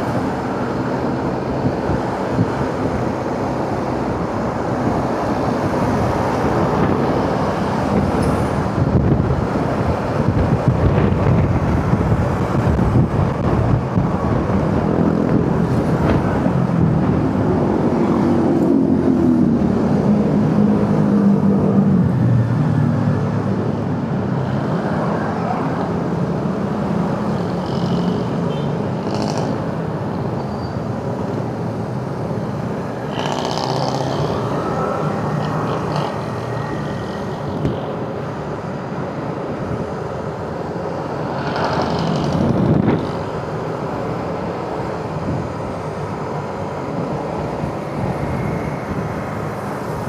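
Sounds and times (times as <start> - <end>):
road noise: 0.0 - 50.0.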